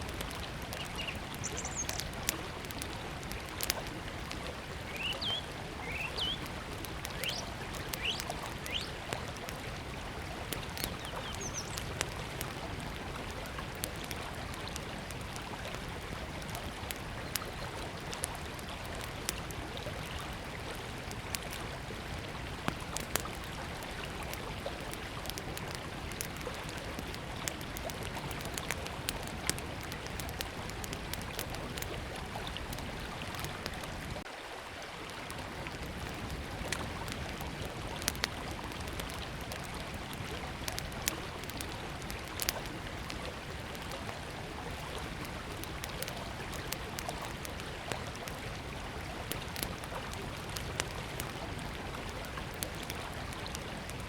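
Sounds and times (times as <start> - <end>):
wood fire crackling: 0.0 - 34.3, 35.0 - 54.0
river flowing: 0.0 - 54.0.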